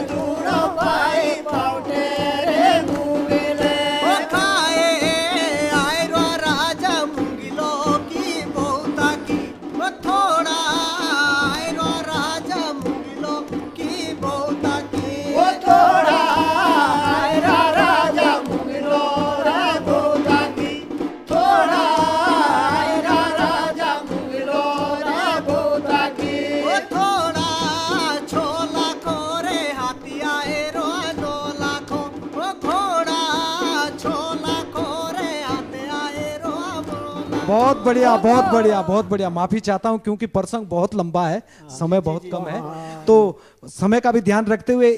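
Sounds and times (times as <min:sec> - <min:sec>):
percussion accompaniment: 0:00.0 - 0:44.9.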